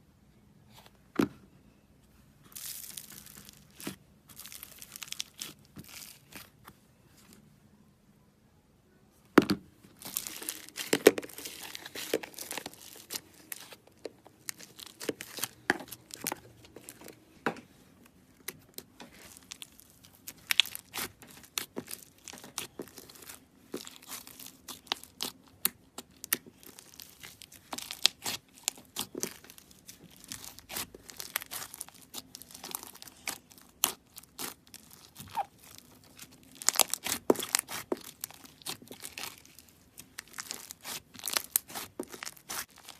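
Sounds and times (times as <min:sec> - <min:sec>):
slime crackling and popping: 0:02.5 - 0:06.5, 0:10.0 - 0:17.0, 0:18.4 - 0:42.9.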